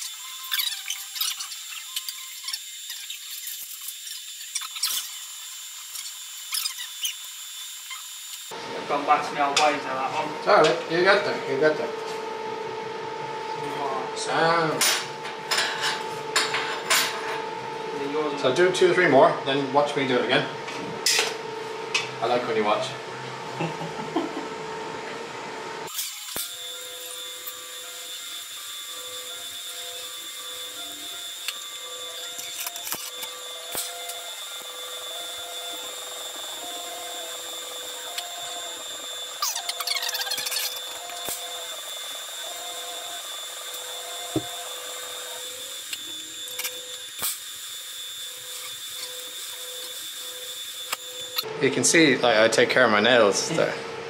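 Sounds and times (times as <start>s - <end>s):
welding arc buzzing: 0.0s - 24.8s, 25.8s - 52.4s.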